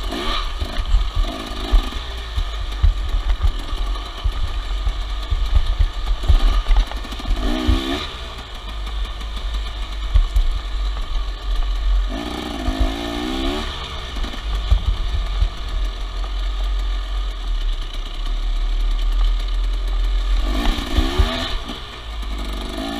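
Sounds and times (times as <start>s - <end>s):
dirt bike engine revving: 0.0s - 17.0s, 19.4s - 22.9s.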